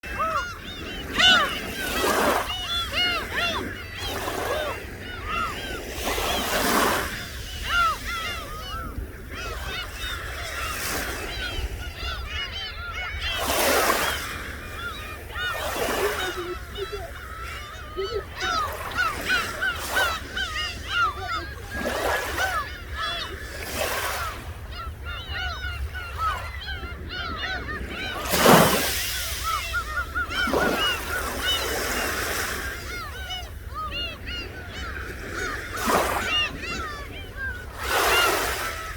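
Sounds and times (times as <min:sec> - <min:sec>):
seagulls squawking: 0:00.0 - 0:38.9.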